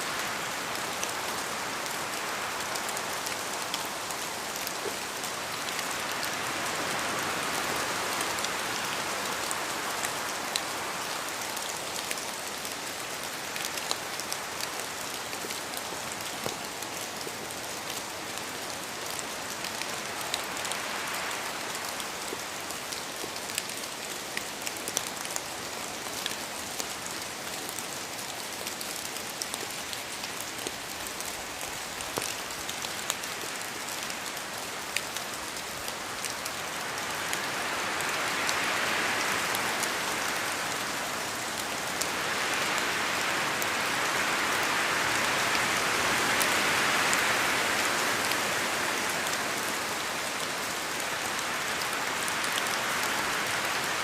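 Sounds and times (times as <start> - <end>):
rain pattering on leaves: 0.0 - 54.0.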